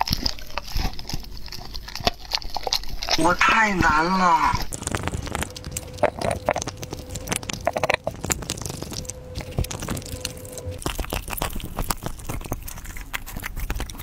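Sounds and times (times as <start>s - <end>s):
dog crunching bone: 0.0s - 3.4s, 4.2s - 14.0s.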